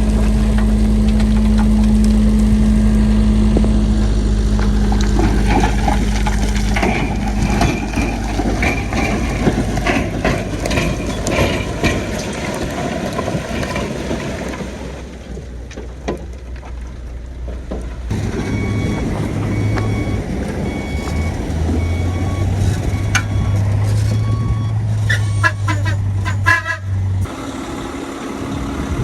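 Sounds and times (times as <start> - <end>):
diesel engine running: 0.0 - 29.0
rock and steel crunching: 0.0 - 29.0.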